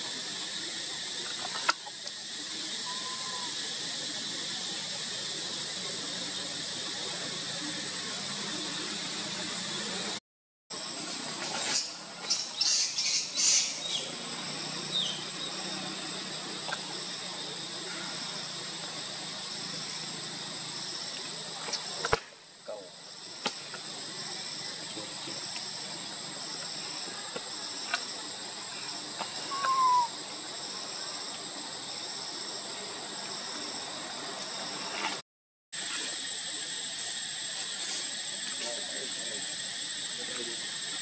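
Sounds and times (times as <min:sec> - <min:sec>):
insects droning: 0:00.0 - 0:35.2, 0:35.8 - 0:41.0.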